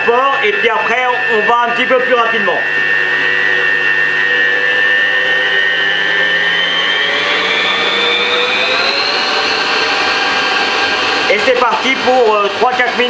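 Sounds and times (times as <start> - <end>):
stand mixer motor whining: 0.0 - 13.0.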